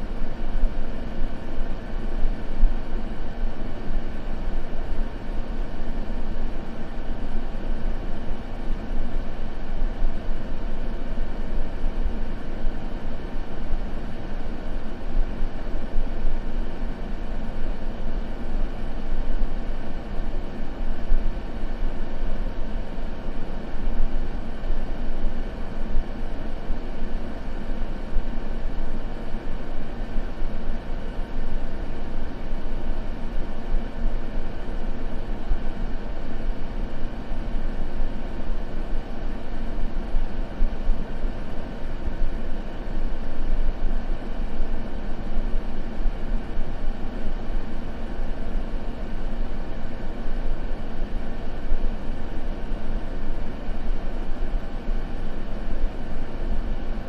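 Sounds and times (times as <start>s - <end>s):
deep white noise hiss: 0.0s - 57.0s.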